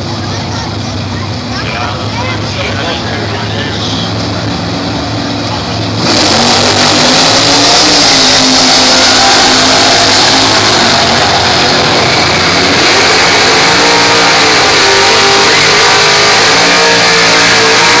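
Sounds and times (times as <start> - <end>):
drag racing cars at full throttle: 0.0 - 18.0.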